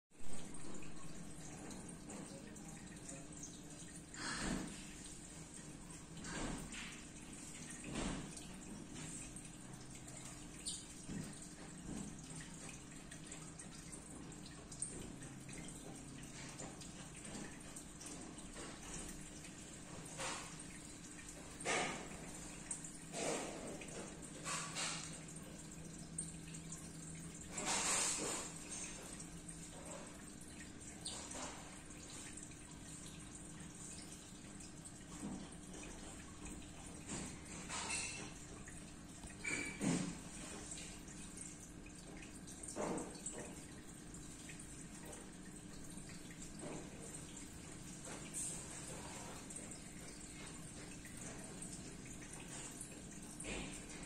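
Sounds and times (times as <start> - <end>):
water dripping and splashing: 0.2 - 54.0.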